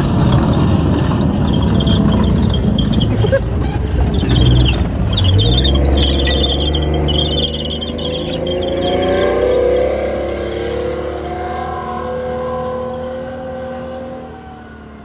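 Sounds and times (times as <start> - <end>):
tank engine droning: 0.0 - 15.0
steel tracks squealing: 0.2 - 14.6.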